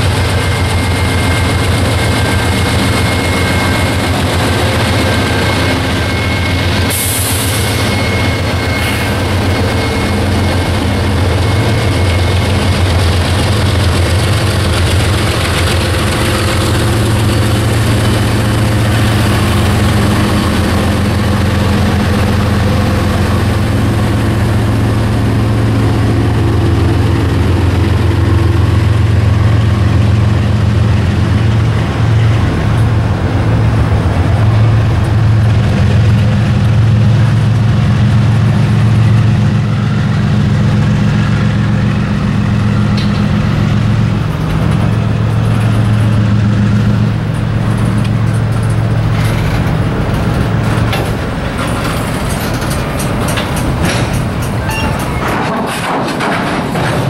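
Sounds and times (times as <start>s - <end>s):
boxcars rolling on rails: 0.0s - 57.0s
diesel locomotive engine drone: 0.0s - 57.0s.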